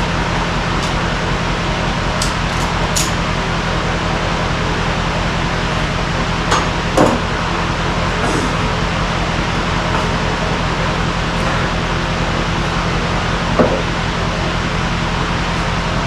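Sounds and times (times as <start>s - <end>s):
mechanical drone: 0.0s - 16.0s.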